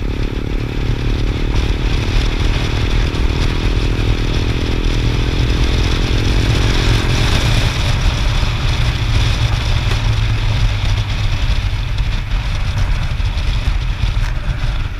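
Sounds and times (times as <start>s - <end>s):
motorcycle engine rumble: 0.0s - 14.9s
wind rush: 0.0s - 14.9s.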